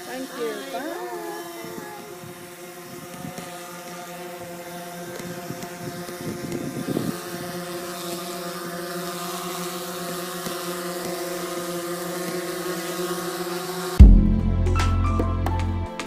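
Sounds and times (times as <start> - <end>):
drone propellers humming: 0.0 - 15.9.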